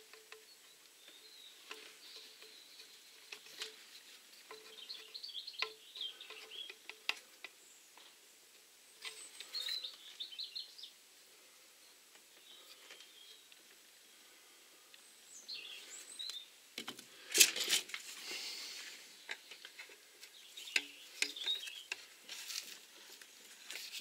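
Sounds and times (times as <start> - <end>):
small birds chirping: 0.0 - 17.3, 18.2 - 24.0.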